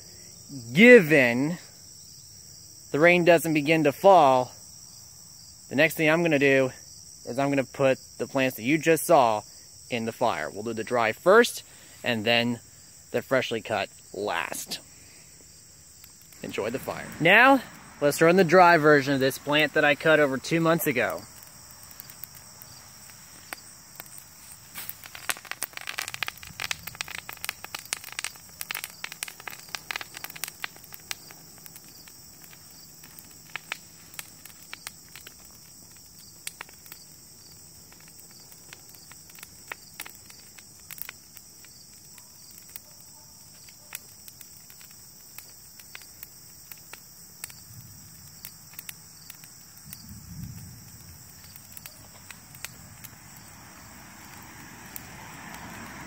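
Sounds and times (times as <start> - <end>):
campfire crackling and popping: 0.0 - 56.0
insects trilling: 0.0 - 56.0.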